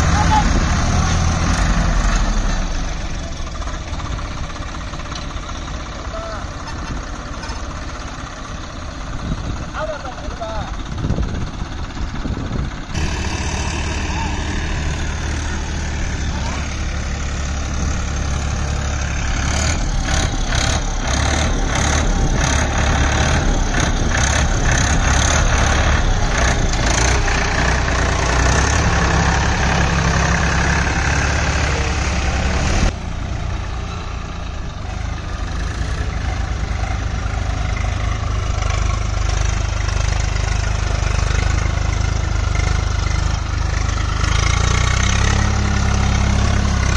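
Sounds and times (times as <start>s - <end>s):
tractor diesel engines running: 0.0s - 46.9s.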